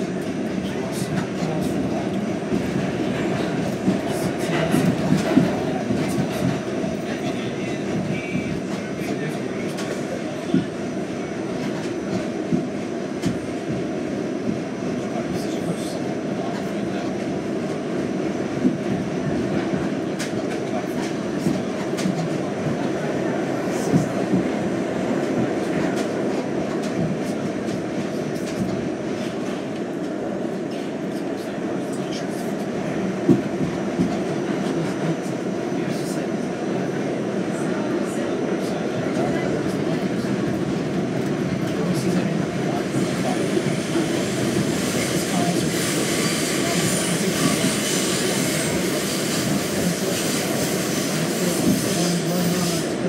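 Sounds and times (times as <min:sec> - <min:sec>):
subway car rumble: 0:00.0 - 0:53.0.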